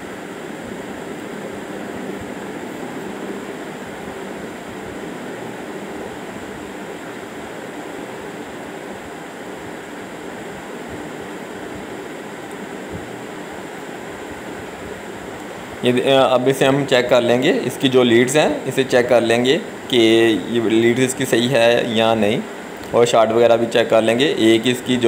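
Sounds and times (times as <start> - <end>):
faint even hum: 0.0 - 25.0
steady rushing noise: 0.0 - 25.0.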